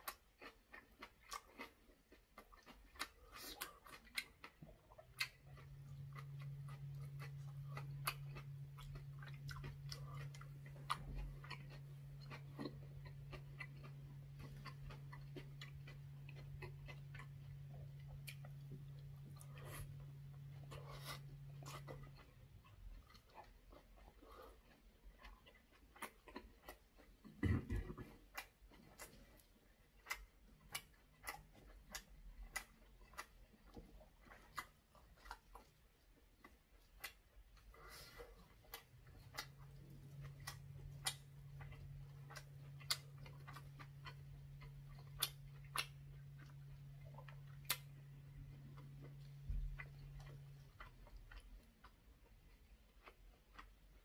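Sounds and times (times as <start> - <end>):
low steady hum: 0.0 - 54.0
wet chewing and mouth clicks: 0.0 - 54.0.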